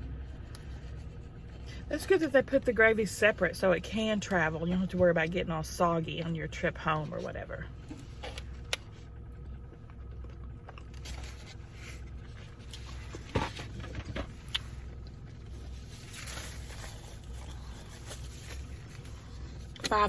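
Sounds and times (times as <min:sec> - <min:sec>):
car engine hum inside cabin: 0:00.0 - 0:20.0.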